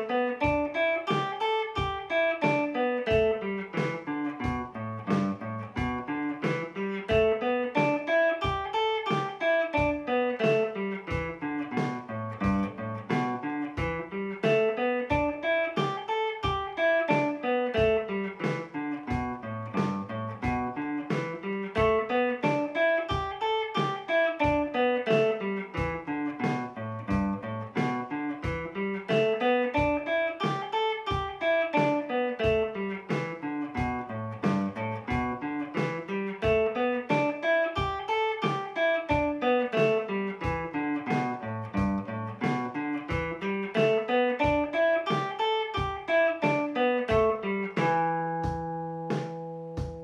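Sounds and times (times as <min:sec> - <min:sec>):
electric guitar playing scale: 0:00.0 - 0:50.0.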